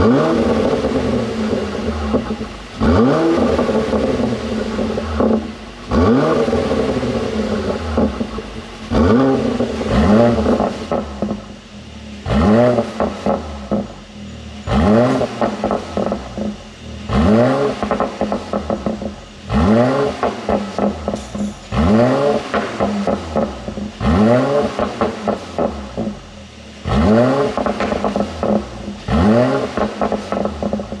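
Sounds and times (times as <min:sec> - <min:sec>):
car engine revving: 0:00.0 - 0:31.0
exhaust pops and crackles: 0:00.0 - 0:31.0.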